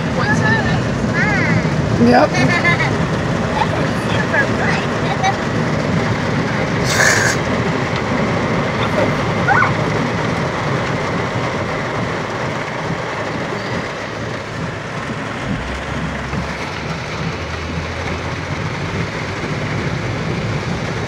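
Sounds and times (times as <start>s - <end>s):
rain on windshield and roof: 0.0s - 21.0s
tyres pushing through deep water: 0.0s - 21.0s.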